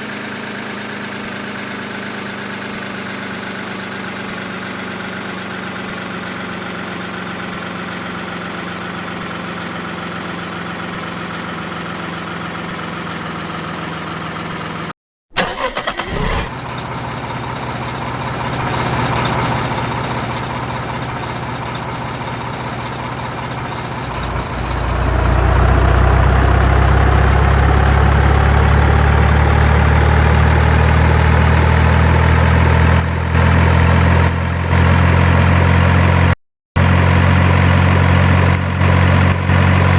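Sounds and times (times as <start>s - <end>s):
excavator engine idling and revving: 0.0s - 39.9s.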